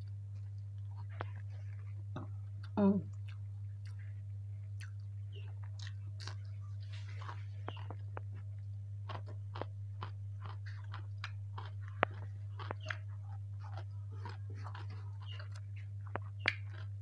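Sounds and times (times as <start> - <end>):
crackers crunching: 0.0 - 17.0
steady low hum: 0.0 - 17.0.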